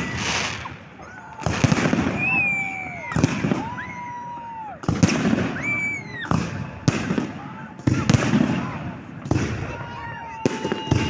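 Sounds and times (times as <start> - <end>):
firework shells bursting: 0.0 - 9.7.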